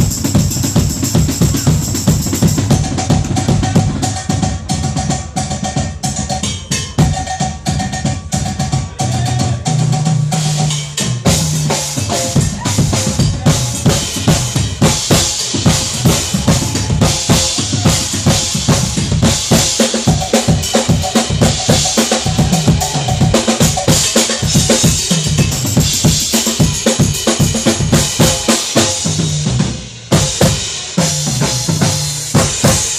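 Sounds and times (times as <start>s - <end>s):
drum solo: 0.0s - 32.9s.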